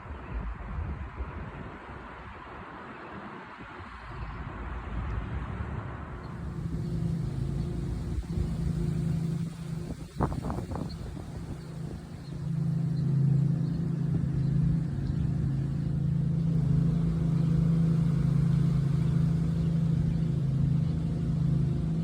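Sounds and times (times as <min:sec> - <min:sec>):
low motor rumble: 0:03.6 - 0:22.0.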